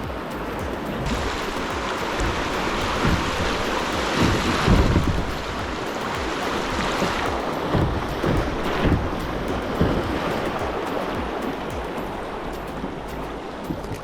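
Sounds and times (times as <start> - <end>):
creek water rushing: 0.0 - 14.0
wind rumbling on microphone: 0.0 - 14.0.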